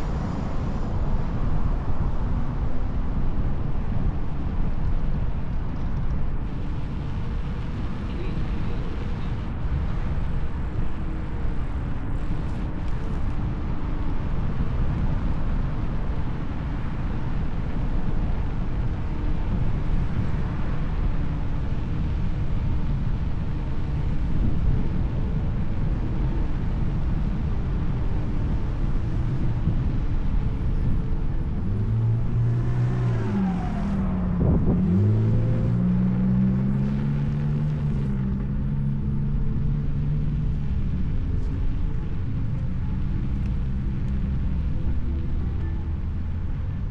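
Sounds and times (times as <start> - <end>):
wind: 0.0 - 46.9.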